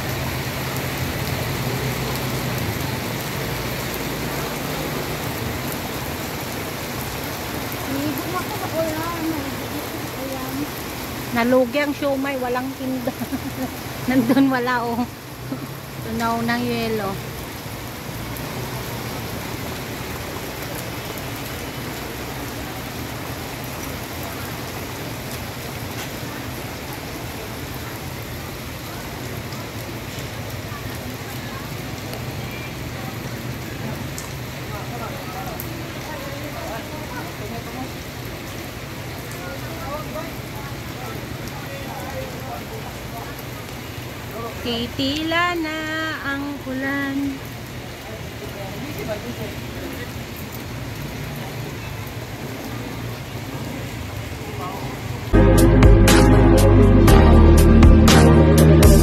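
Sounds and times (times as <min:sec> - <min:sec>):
heavy rain on street: 0:00.0 - 0:59.0.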